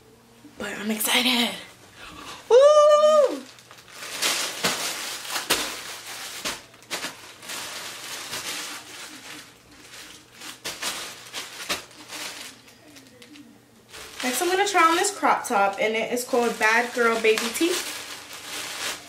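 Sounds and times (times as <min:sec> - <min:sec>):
plastic bags crinkling: 0:02.8 - 0:19.0.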